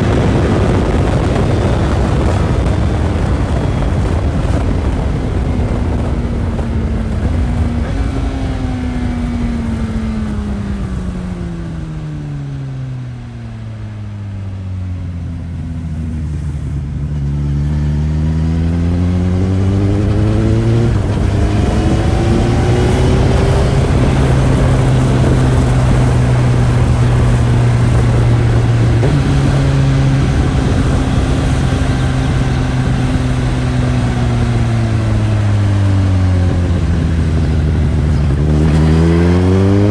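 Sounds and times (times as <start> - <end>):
motorcycle engine while riding: 0.0 - 39.9
wind noise: 0.0 - 39.9.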